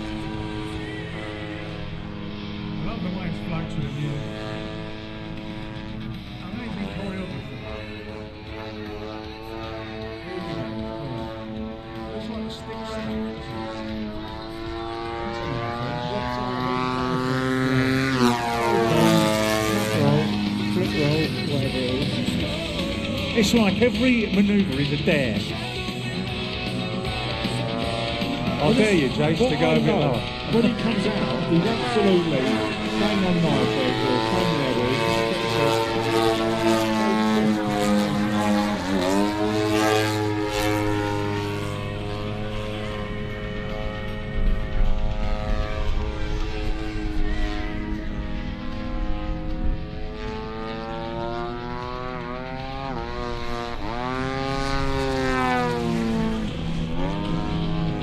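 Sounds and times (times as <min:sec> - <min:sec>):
model plane engine passing: 0:00.0 - 0:58.0.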